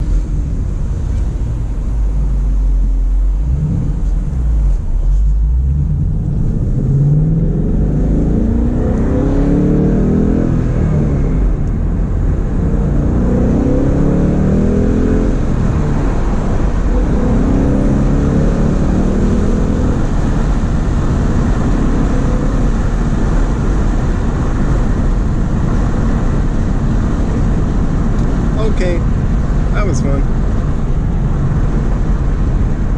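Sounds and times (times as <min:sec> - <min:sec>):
car engine accelerating: 0:00.0 - 0:32.9
road noise: 0:00.0 - 0:32.9.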